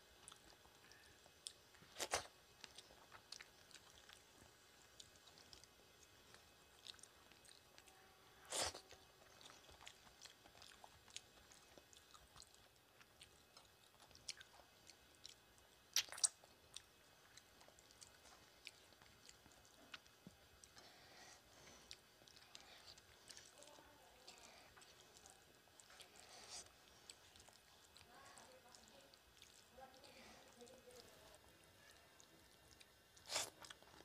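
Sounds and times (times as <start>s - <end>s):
wet chewing and mouth smacks: 0.2s - 8.0s, 8.6s - 20.8s, 21.8s - 31.1s, 31.8s - 34.0s.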